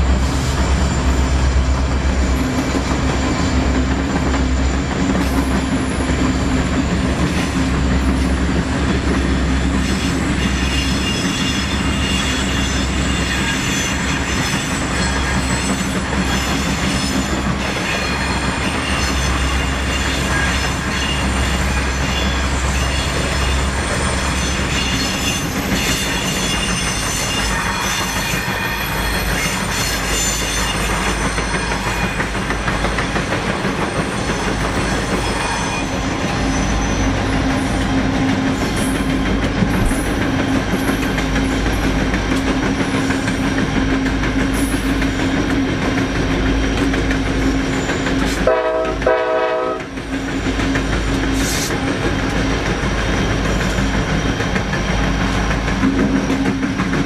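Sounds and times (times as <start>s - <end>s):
freight train rumbling: 0.0s - 57.0s
wheels squealing on rails: 0.0s - 57.0s.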